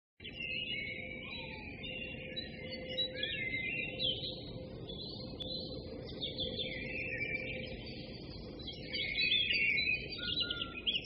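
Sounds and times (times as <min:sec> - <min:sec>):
birds chirping and singing: 0:00.2 - 0:11.0
faint steady hum: 0:01.0 - 0:11.0.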